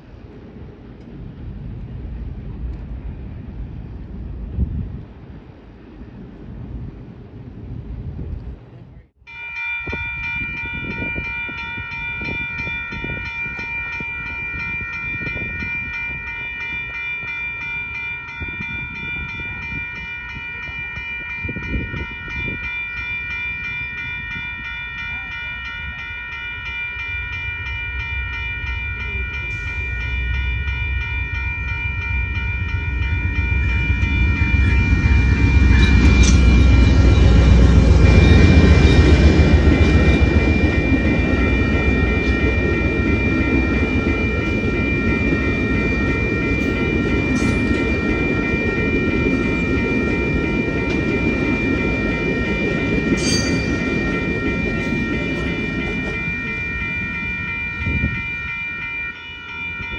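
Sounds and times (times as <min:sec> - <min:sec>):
passenger train rumbling past: 0:00.0 - 0:59.9
railroad crossing bell ringing: 0:09.2 - 0:59.9.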